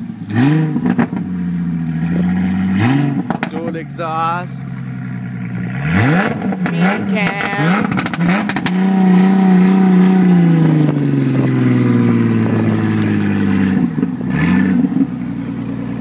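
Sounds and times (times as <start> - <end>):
car engine revving: 0.0 - 16.0
engine idling: 1.2 - 8.6, 10.3 - 16.0.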